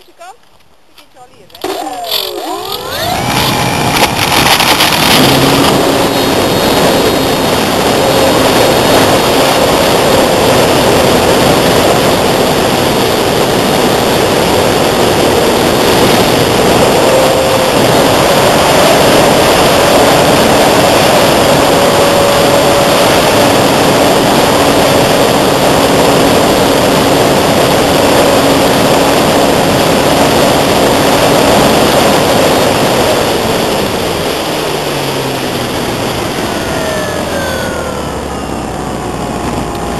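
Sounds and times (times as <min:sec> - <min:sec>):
wind noise on microphone: 0:00.0 - 0:39.9
model plane motor droning: 0:01.6 - 0:39.9.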